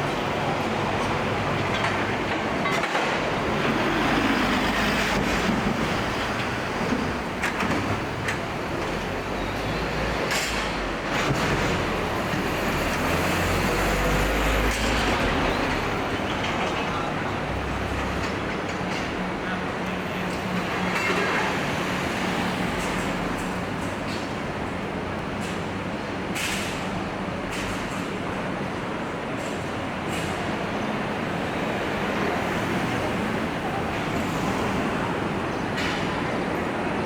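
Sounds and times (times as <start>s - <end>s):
city street traffic rumble: 0.0s - 37.0s.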